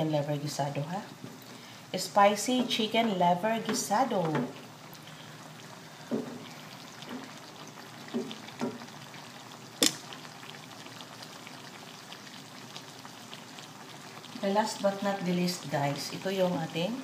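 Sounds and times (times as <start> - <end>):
food simmering and sizzling: 0.0 - 17.0.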